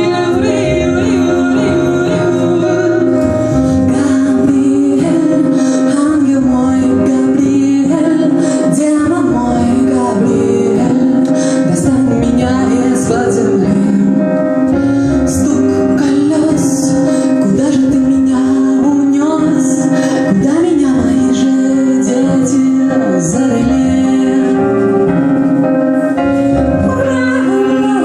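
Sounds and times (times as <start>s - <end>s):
woman singing: 0.0s - 25.5s, 26.6s - 28.0s
keyboard playing: 0.0s - 28.0s.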